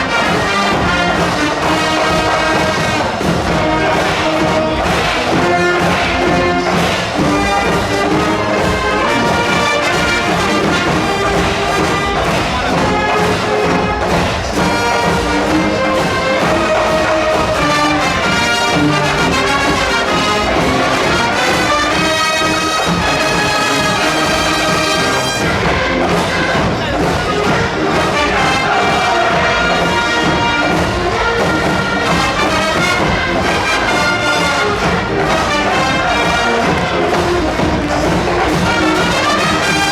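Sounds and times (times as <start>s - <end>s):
trumpets and trombones: 0.0s - 39.9s
wind band playing brass music: 0.0s - 39.9s.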